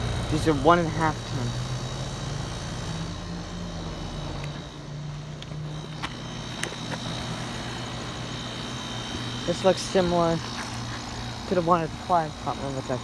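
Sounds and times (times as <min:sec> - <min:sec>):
heat pump low hum: 0:00.0 - 0:13.0.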